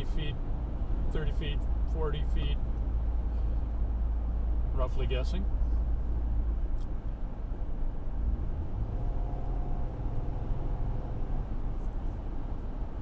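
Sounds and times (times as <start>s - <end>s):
road and engine rumble in car cabin: 0.0s - 13.0s.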